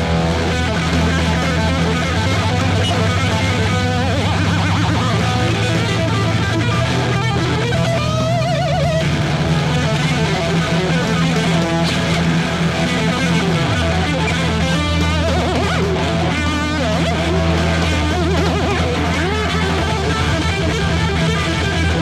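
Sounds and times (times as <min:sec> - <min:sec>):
electric guitar music with bass: 0:00.0 - 0:22.0.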